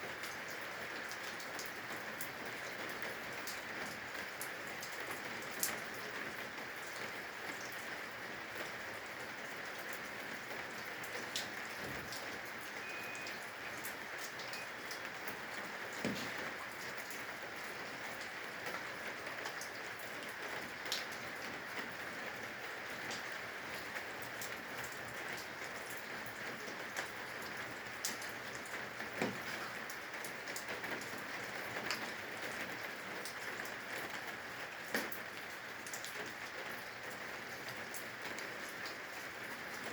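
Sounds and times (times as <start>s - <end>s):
rain falling on eaves: 0.0s - 39.9s.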